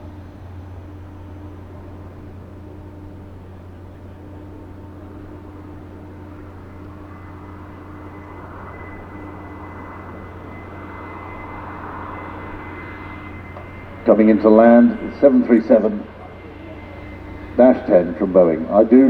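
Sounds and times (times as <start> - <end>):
jet airliner flying past: 0.0 - 19.0
thin steady whine: 0.0 - 19.0.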